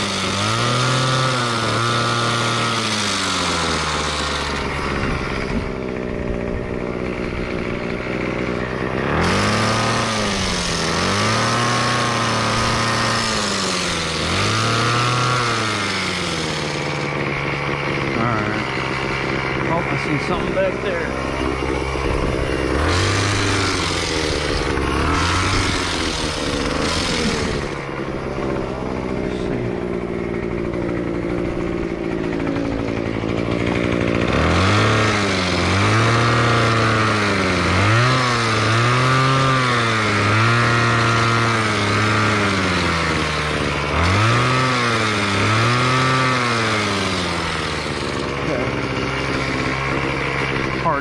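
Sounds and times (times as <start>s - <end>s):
small gasoline engine revving: 0.0s - 51.0s.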